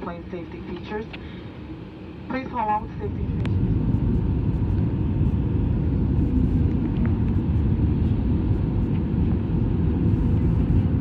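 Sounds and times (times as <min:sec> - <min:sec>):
aircraft cabin rumble: 0:00.0 - 0:11.0
faint steady whine: 0:00.0 - 0:11.0.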